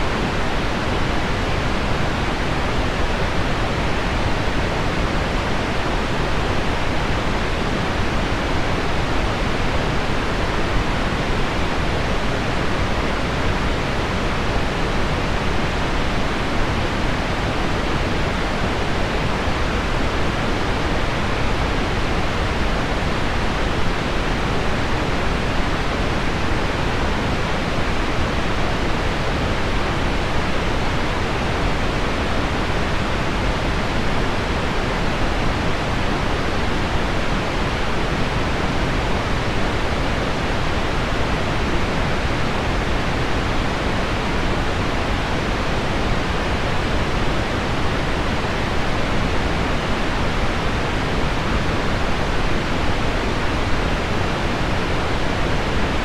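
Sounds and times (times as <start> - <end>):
low pink noise: 0.0 - 56.0.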